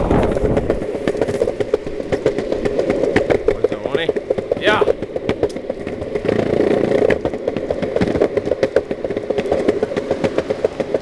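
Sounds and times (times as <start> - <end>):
board clacking over slabs: 0.0 - 11.0
longboard wheels rolling on concrete: 0.0 - 11.0.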